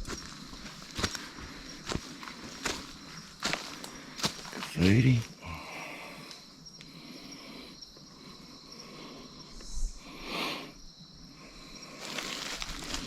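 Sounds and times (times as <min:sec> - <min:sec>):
insects calling: 0:00.0 - 0:13.0.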